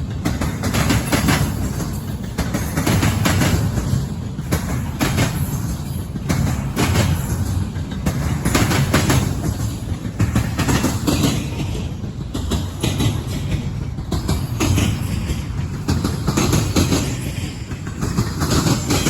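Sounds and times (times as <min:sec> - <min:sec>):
freight train low rumble: 0:00.0 - 0:19.0
wheels clacking over rail joints: 0:00.0 - 0:19.0.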